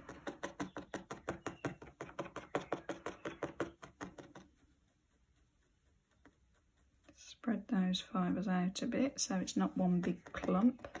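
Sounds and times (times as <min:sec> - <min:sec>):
felting needle punching foam: 0:00.0 - 0:07.2, 0:09.2 - 0:11.0.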